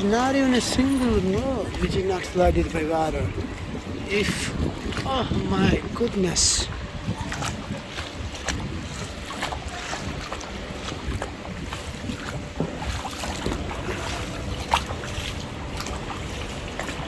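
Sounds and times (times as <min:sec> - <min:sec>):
floodwater sloshing and splashing: 0:00.0 - 0:17.0.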